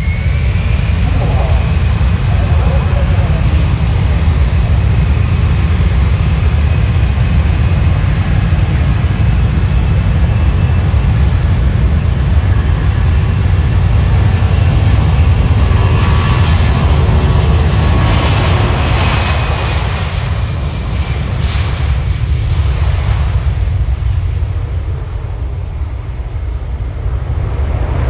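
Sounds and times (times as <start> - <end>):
faint engine whine: 0.0 - 28.0
jet engines rumbling: 0.0 - 28.0.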